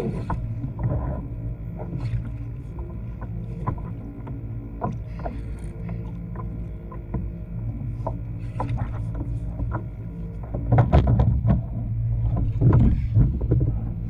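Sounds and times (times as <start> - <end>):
steady low hum: 0.0 - 14.0
water splashing against kayak hull: 0.0 - 14.0.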